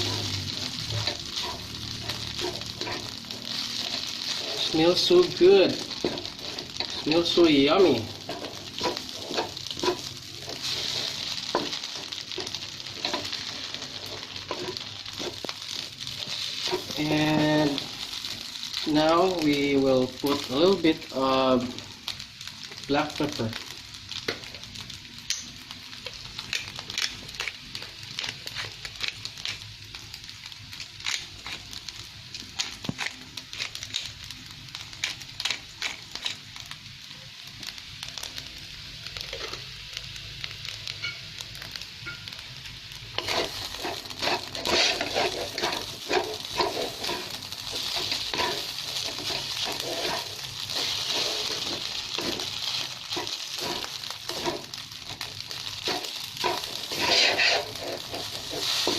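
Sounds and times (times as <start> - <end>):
rice sizzling in a frying pan: 0.0 - 58.9.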